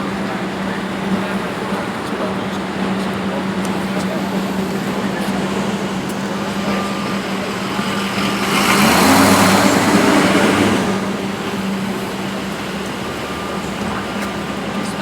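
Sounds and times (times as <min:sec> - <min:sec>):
engine humming: 0:00.0 - 0:15.0
heavier engine rushing past: 0:00.0 - 0:15.0.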